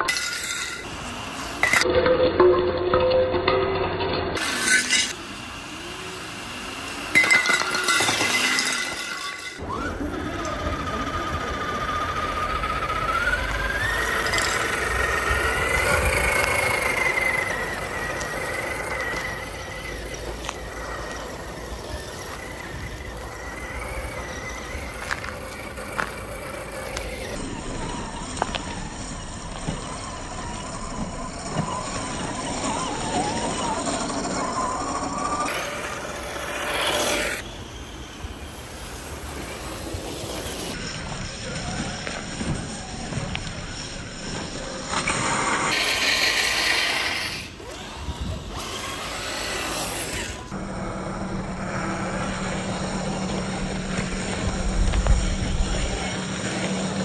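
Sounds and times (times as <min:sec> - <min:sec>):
toy truck motor whining: 0:04.4 - 0:57.0.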